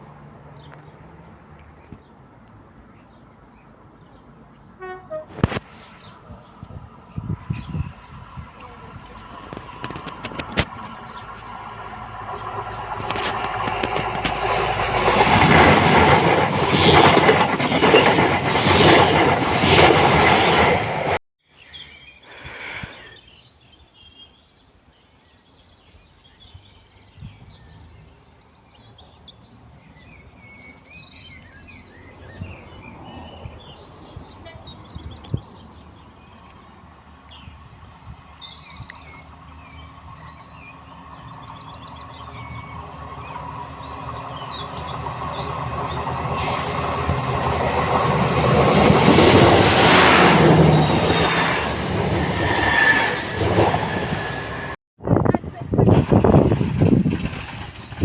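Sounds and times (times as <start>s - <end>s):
birds chirping: 1.6s - 16.3s, 21.5s - 54.7s
train passing close by: 4.3s - 21.2s, 27.7s - 58.0s.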